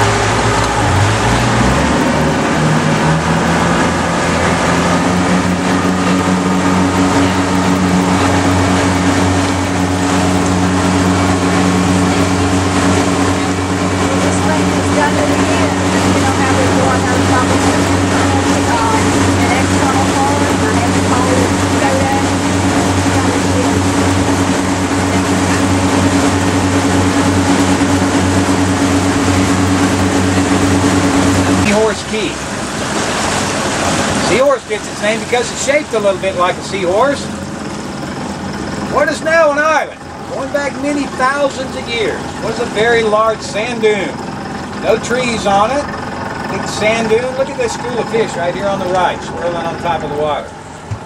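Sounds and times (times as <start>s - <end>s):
boat engine drone: 0.0s - 51.0s
rush of wind and water: 0.0s - 51.0s.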